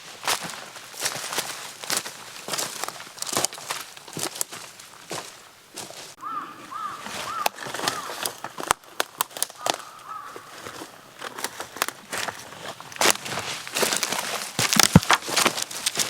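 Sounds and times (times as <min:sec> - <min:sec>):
footsteps crunching: 0:00.0 - 0:16.0.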